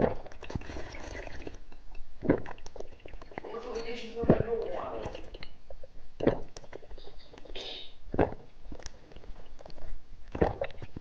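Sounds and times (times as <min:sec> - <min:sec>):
mouth clicks and chewing: 0:00.0 - 0:03.5, 0:05.0 - 0:11.0.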